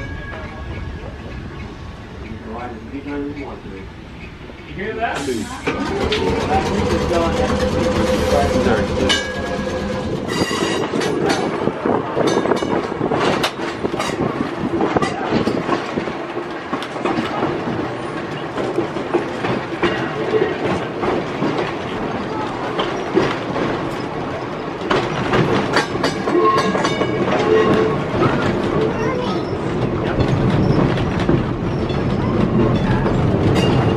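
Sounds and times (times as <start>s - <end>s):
electric streetcar running hum: 0.0s - 33.9s
wheels clattering over rail joints: 0.0s - 33.9s.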